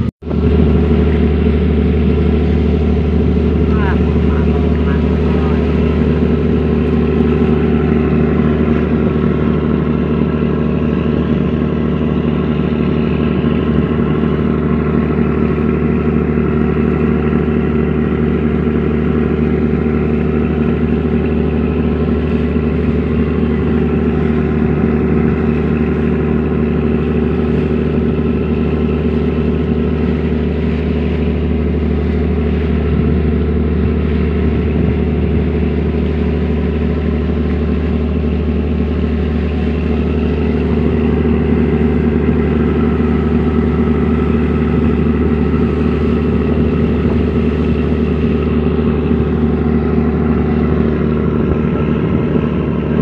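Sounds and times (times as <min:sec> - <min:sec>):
boat diesel engine drone: 0:00.0 - 0:53.0.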